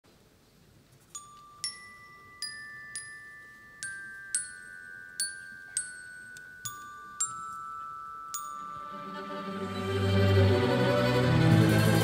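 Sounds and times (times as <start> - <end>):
glockenspiel slow high melody: 1.1 - 11.0.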